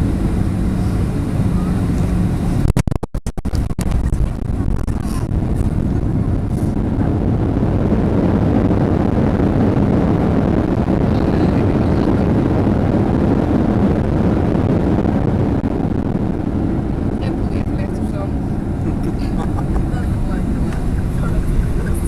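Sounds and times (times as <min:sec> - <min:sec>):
aircraft cabin engine rumble: 0:00.0 - 0:02.9, 0:03.5 - 0:22.0.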